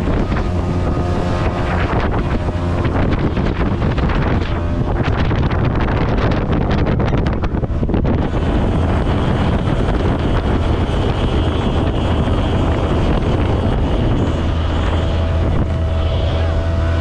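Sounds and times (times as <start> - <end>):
boat engine: 0.0 - 17.0
rushing water: 0.0 - 17.0
wind buffeting microphone: 0.0 - 17.0.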